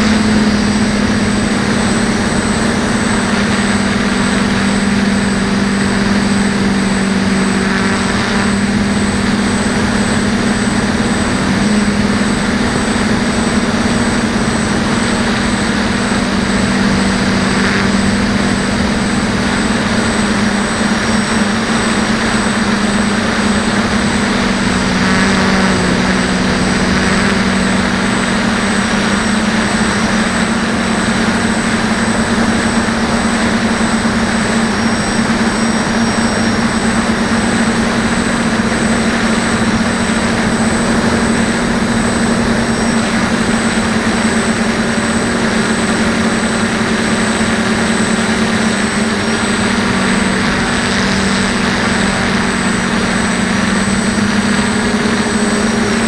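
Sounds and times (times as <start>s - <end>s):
quadcopter motors humming: 0.0s - 56.0s
thin high whine: 0.0s - 56.0s.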